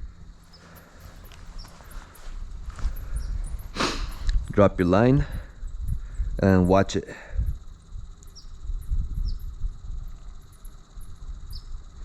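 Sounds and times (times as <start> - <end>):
bats squeaking: 0.0 - 12.0.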